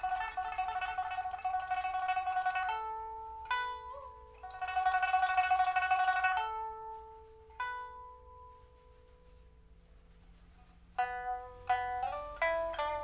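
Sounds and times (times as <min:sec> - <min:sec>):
pipa plucked notes: 0:00.0 - 0:09.7, 0:10.4 - 0:13.0.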